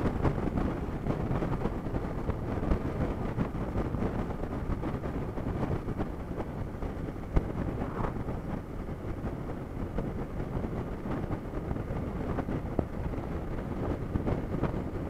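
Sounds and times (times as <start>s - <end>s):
motorcycle riding at speed: 0.0s - 15.0s
wind buffeting microphone: 0.0s - 15.0s.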